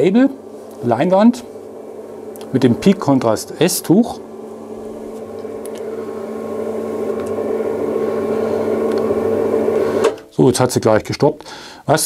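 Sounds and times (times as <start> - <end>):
electric motor humming: 0.0 - 10.2.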